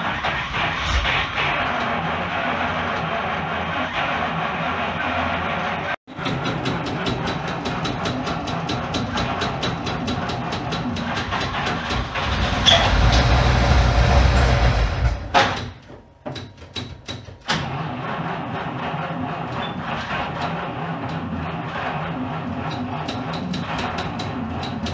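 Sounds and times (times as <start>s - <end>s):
car engine running and sputtering: 0.0s - 15.6s, 17.6s - 24.9s.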